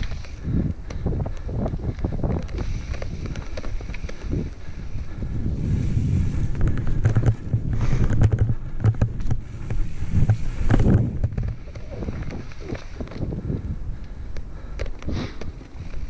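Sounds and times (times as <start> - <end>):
tyres rumbling over dirt: 0.0 - 13.7
bike rattling and knocking: 0.0 - 16.0
wind buffeting microphone: 0.0 - 16.0.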